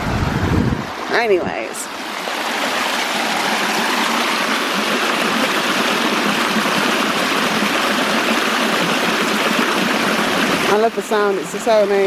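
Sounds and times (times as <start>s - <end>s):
waterfall water rushing: 0.0s - 11.9s.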